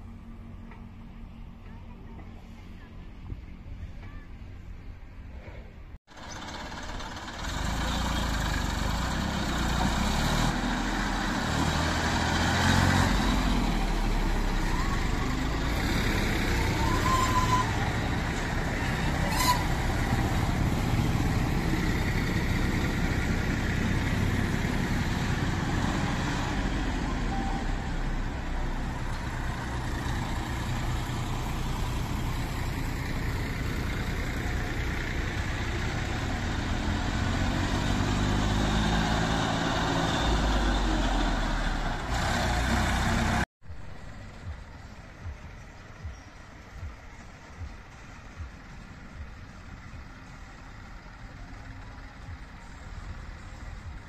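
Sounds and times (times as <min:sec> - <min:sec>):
tractor diesel engines passing: 0:00.0 - 0:54.0.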